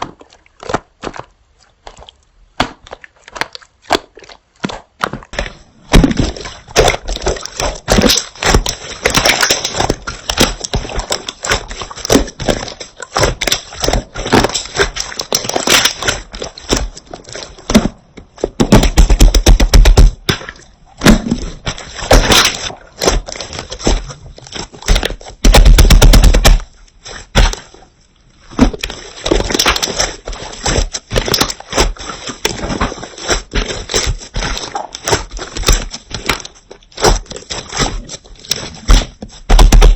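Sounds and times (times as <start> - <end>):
slime crackling and popping: 2.5 - 39.9.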